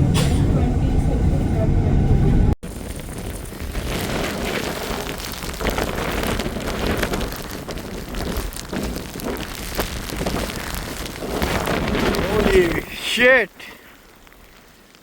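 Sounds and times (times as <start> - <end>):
wind buffeting microphone: 0.0 - 13.0
snow pattering on microphone: 2.6 - 15.0.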